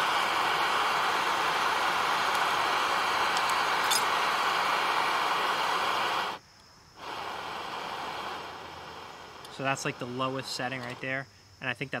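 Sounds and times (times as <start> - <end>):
gas stove burner hissing: 0.0 - 11.3.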